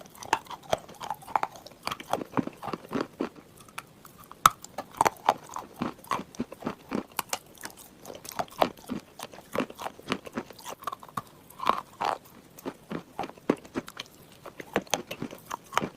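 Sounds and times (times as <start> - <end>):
wet chewing: 0.0 - 15.9.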